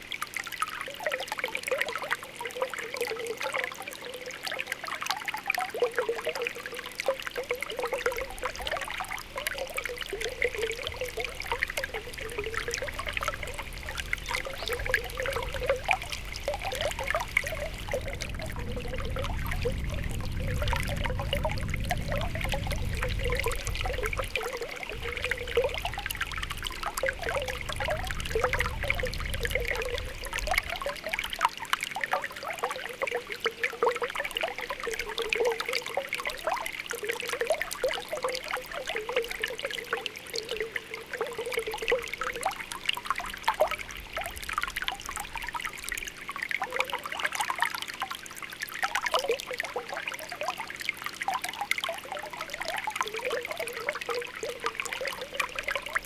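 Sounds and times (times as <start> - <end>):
light water trickle: 0.0 - 56.0
spring water bubbling: 0.0 - 56.0.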